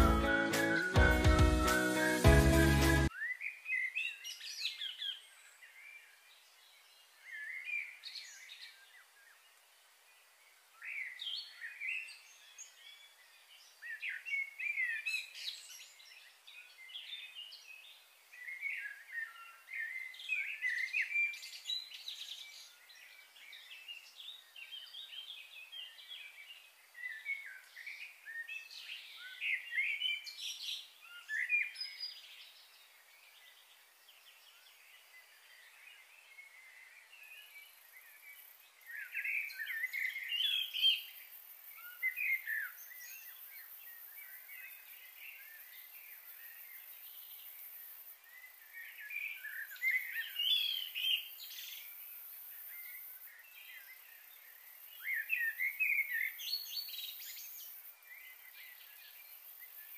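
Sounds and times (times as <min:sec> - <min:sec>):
faint outdoor hiss: 0:00.0 - 0:59.9
songbirds chirping and singing: 0:00.0 - 0:59.9.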